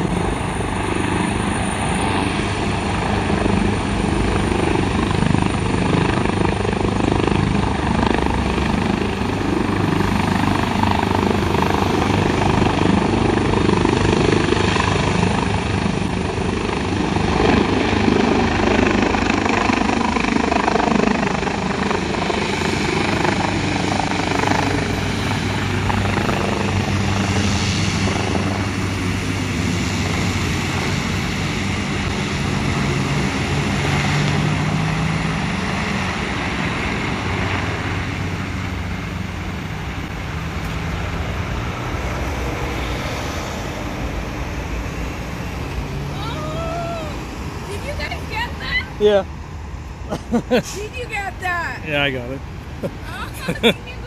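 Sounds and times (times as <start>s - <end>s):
helicopter flying away: 0.0s - 54.0s.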